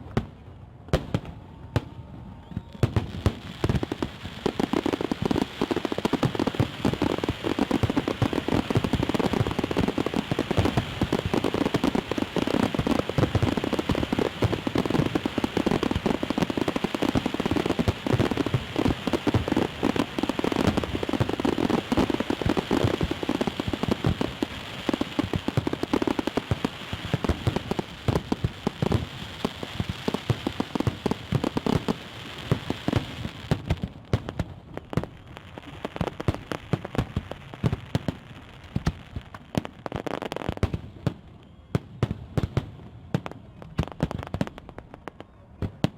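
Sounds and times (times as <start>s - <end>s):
fireworks crackling: 1.0s - 45.9s.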